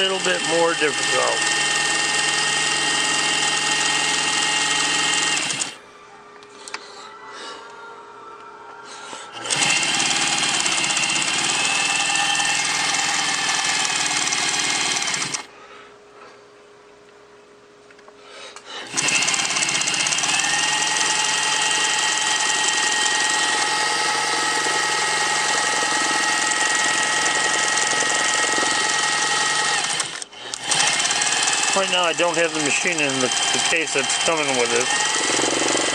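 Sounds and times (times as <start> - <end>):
sewing machine running fast: 0.0 - 5.8, 9.4 - 15.5, 18.9 - 35.9.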